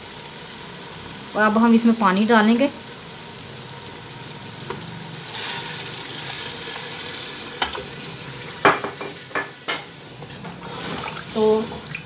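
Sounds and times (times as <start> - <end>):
food sizzling in a pot: 0.0 - 12.0
water hissing on hot pot: 0.0 - 12.0.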